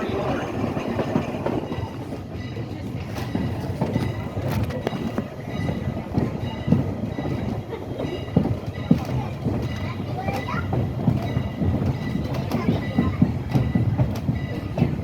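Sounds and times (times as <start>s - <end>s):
train coach rumbling: 0.0s - 15.0s
wheels knocking over rail joints: 0.0s - 15.0s.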